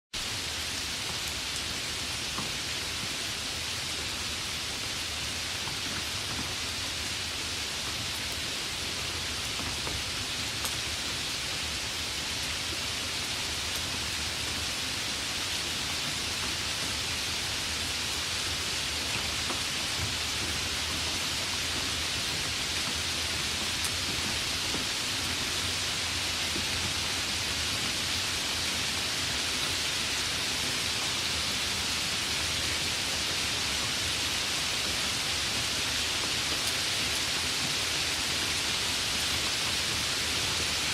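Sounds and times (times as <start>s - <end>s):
light rain hiss: 0.2s - 40.9s.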